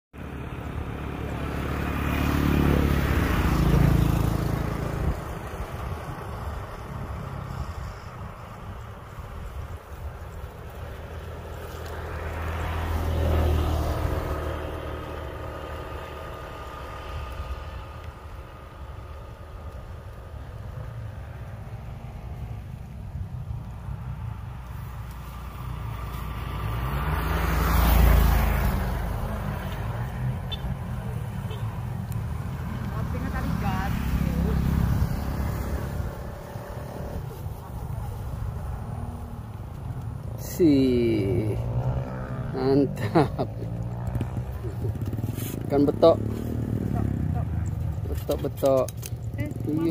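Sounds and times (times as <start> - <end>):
passing vehicle engine: 0.2 - 49.9.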